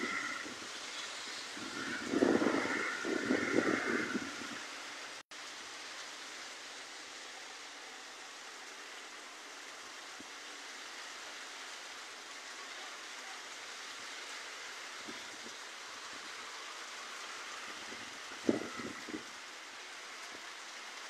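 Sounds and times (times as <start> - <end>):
heavy rain: 0.0 - 21.0.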